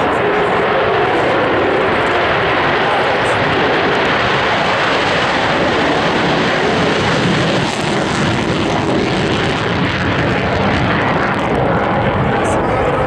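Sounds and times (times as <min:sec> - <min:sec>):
jet engine running at high power: 0:00.0 - 0:13.0.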